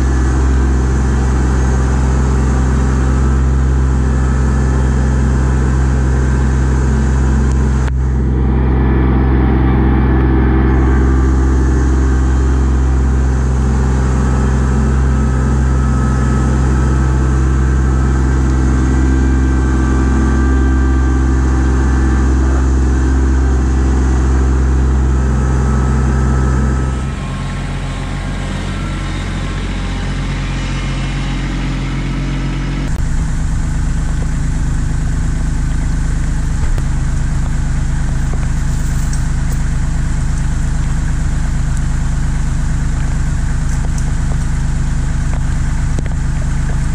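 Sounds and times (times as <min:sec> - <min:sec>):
tractor diesel engine running: 0:00.0 - 0:46.9
tractor engine idling: 0:00.0 - 0:46.9.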